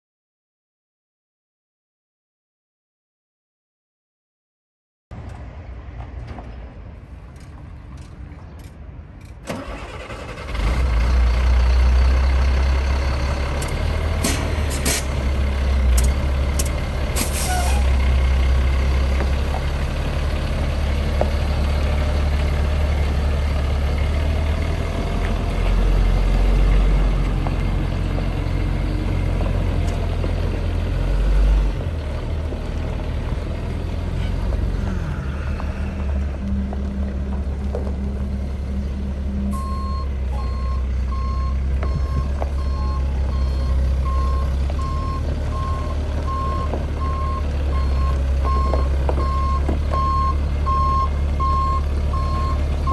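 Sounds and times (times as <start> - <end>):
diesel engine cranking and running: 8.6 - 52.9.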